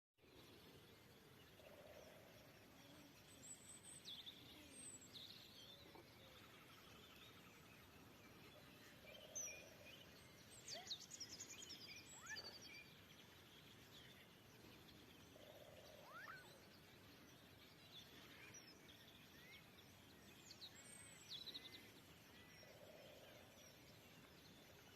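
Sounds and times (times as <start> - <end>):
birds chirping and trilling: 0.2 - 24.9.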